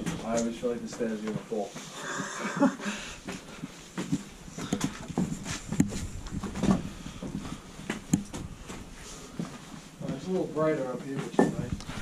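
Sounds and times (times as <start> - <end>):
footsteps on staircase: 0.0 - 12.0.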